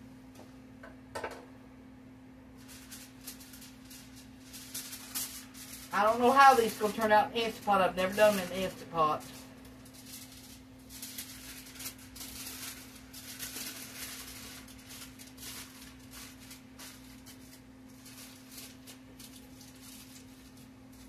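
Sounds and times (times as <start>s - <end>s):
steady low hum: 0.0s - 21.0s
aluminum foil crinkling: 2.5s - 21.0s.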